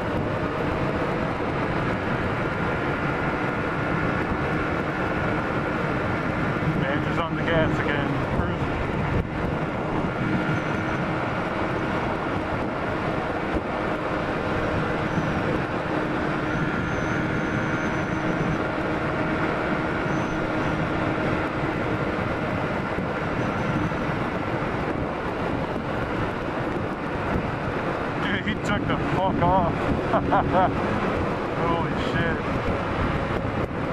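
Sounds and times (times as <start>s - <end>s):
motorcycle engine drone: 0.0s - 33.9s
wind rush on microphone: 0.0s - 33.9s.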